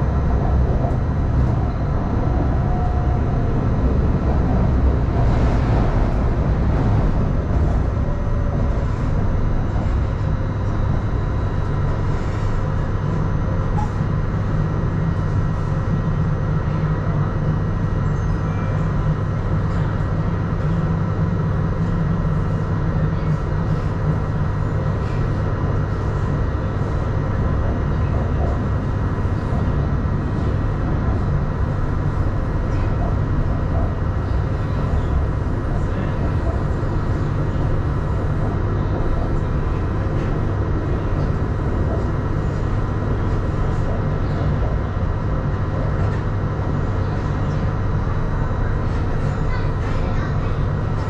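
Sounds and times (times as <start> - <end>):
train interior rumble: 0.0 - 51.0.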